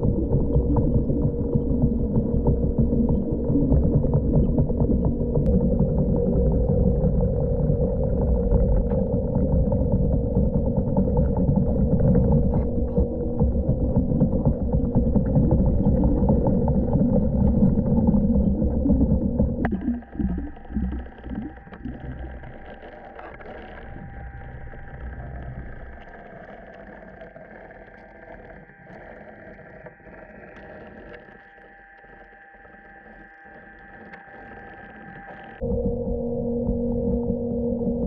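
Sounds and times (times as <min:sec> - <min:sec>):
water gurgling: 0:00.0 - 0:35.6
muffled hum with high whine: 0:00.0 - 0:38.0
pool pump low rumble: 0:00.0 - 0:38.0.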